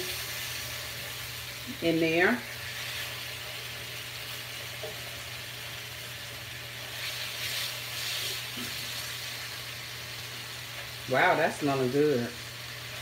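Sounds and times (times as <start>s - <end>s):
chicken sizzling in skillet: 0.0s - 13.0s.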